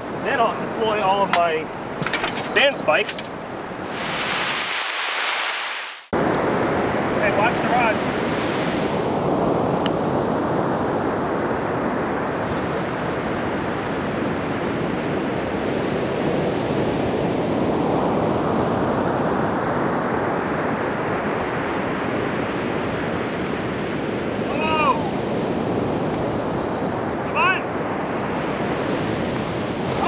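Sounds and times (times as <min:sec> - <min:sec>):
ocean surf breaking on beach: 0:00.0 - 0:30.0.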